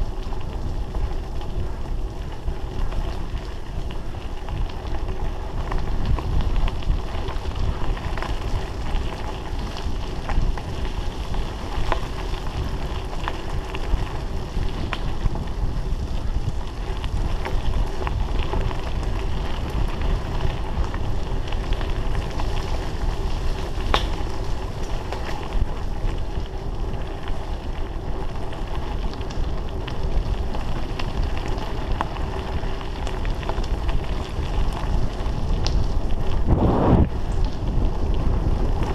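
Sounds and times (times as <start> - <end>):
wind rushing over microphone: 0.0 - 28.2, 28.8 - 38.9.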